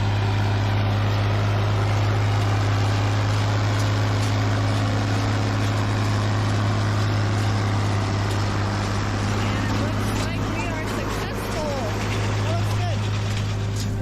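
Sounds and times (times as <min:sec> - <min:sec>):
tractor engine under load: 0:00.0 - 0:14.0.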